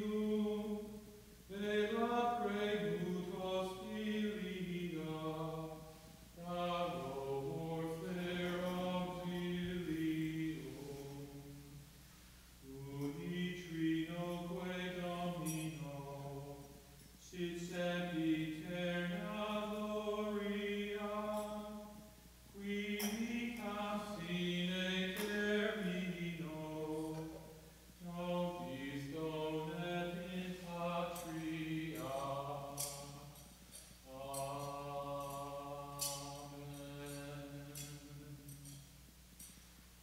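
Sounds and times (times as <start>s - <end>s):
person chanting a hymn: 0.0s - 11.9s, 12.6s - 38.8s.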